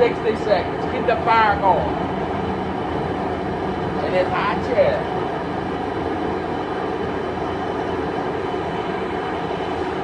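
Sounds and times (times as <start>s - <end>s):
gas burner running: 0.0s - 10.0s
water boiling: 0.0s - 10.0s.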